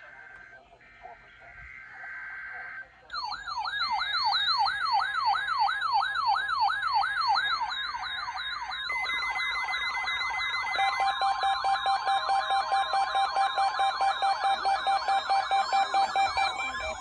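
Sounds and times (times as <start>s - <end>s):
steady alarm tone: 0.0s - 17.0s
siren-style alert alarm: 1.5s - 17.0s.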